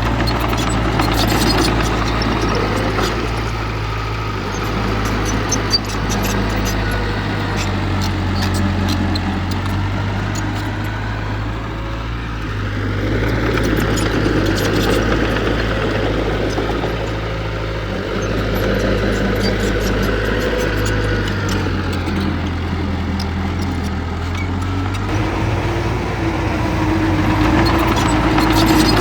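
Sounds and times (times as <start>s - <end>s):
heavy diesel machinery rumbling: 0.0s - 29.0s.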